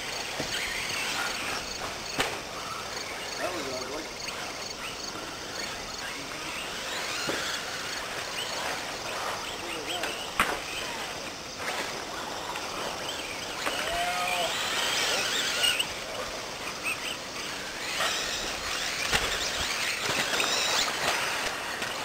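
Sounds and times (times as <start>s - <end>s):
toy car motors whining: 0.0s - 22.0s.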